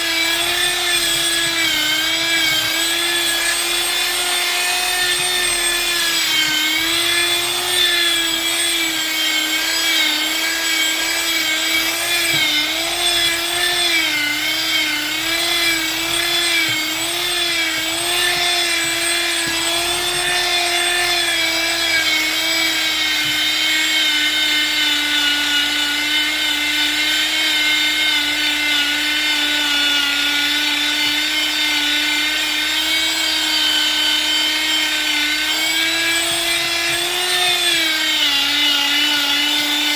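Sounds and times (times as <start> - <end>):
power tool whining through wood: 0.0 - 39.9.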